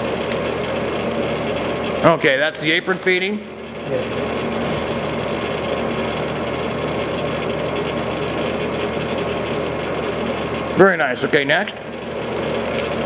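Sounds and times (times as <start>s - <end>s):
lathe humming: 0.0s - 13.0s.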